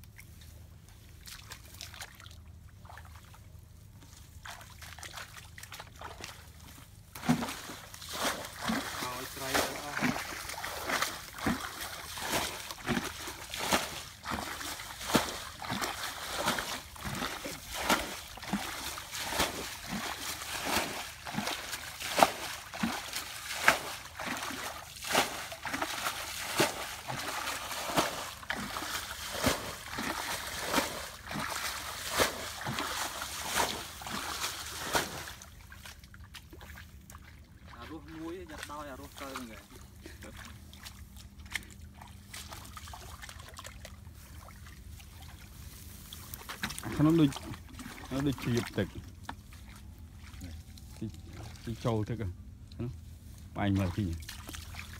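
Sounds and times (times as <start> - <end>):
wet splashes and slaps: 1.0 - 3.4, 4.1 - 51.6, 53.7 - 54.9.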